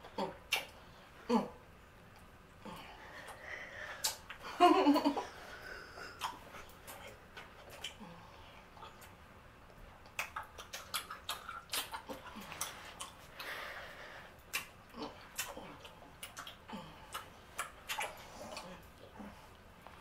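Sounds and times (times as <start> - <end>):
gum chewing smacks: 0.0 - 0.8, 2.1 - 4.4, 6.0 - 13.7, 14.4 - 19.6.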